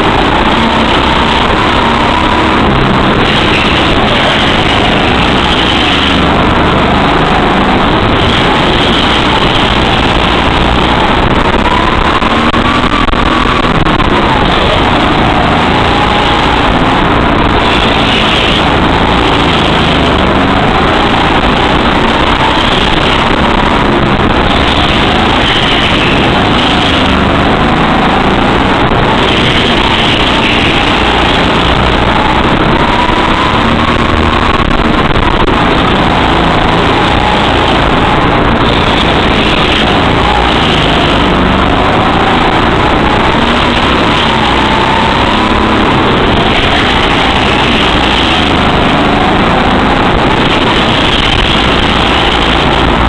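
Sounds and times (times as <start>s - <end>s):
go-kart motor: 0.0s - 53.0s
steady rush of noise: 0.0s - 53.0s.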